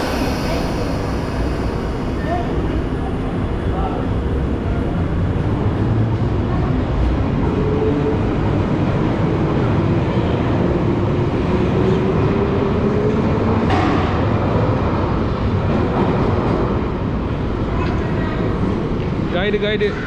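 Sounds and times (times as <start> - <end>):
underground train rumble: 0.0 - 20.0.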